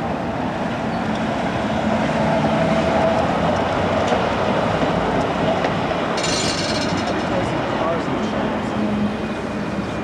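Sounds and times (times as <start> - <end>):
rail vehicle rumble: 0.0 - 10.0.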